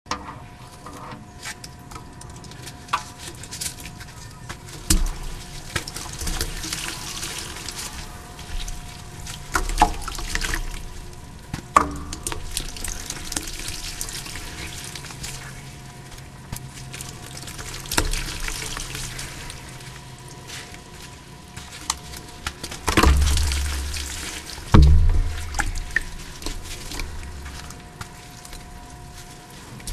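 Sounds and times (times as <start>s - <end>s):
wet chalk squelching: 2.4s - 11.0s, 12.4s - 29.9s.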